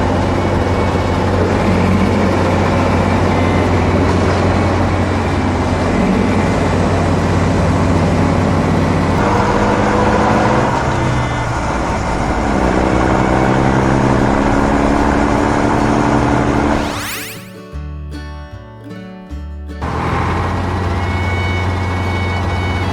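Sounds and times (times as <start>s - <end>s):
diesel engine running: 0.0s - 17.6s, 19.8s - 22.9s.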